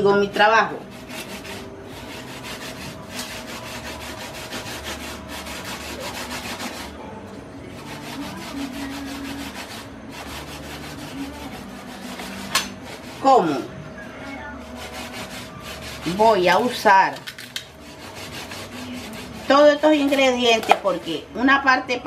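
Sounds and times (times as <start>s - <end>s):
knife scraping fish: 0.6s - 7.0s, 7.8s - 13.3s, 14.6s - 21.2s.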